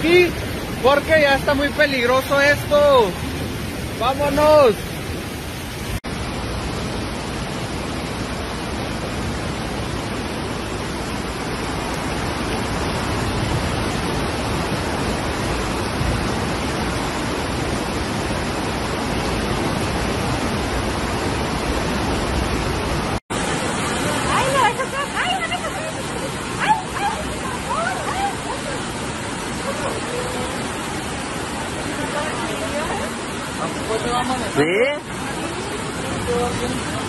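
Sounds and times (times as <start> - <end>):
heavy rain: 0.0 - 37.0
river rushing through channel: 0.0 - 37.0.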